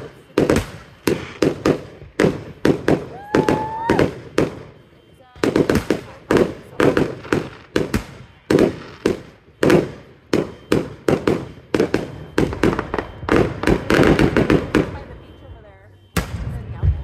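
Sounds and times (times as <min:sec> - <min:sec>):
fireworks bursting with sharp bangs: 0:00.0 - 0:17.0.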